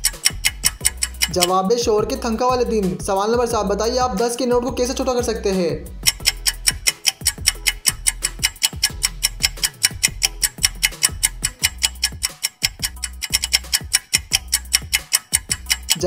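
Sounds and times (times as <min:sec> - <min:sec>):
clock ticking: 0:00.0 - 0:16.0
low bass line: 0:00.0 - 0:16.0.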